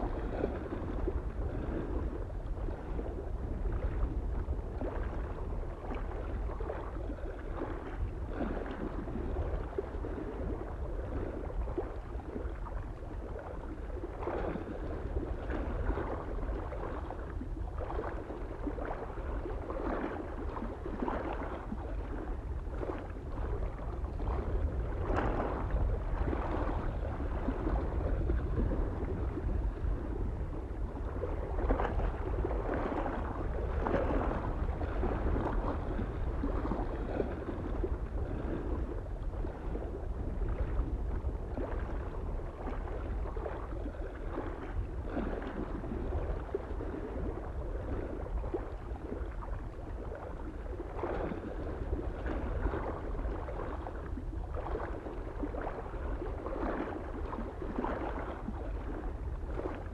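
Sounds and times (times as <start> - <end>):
small waves lapping on shore: 0.0 - 59.9
wind rumble on microphone: 0.0 - 59.9.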